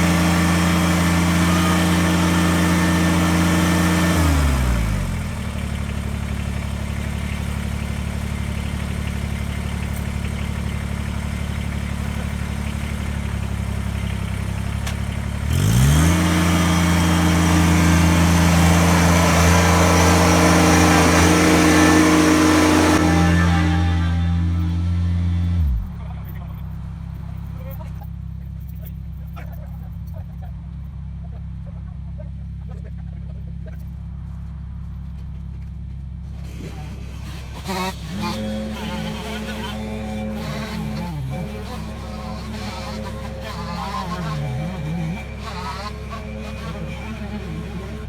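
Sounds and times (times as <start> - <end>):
tractor diesel engine revving and idling: 0.0 - 48.0.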